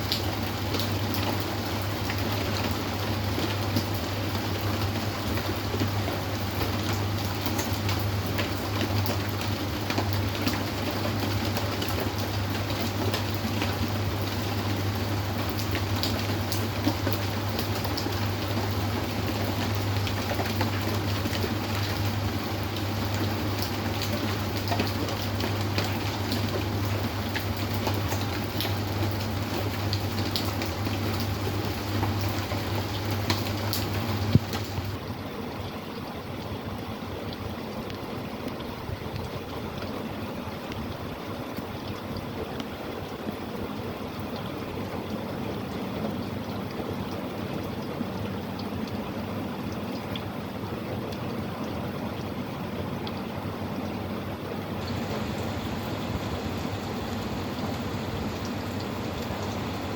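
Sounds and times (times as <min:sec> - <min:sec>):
raindrops ticking: 0:00.0 - 0:59.9
steady rain falling: 0:00.0 - 0:59.9.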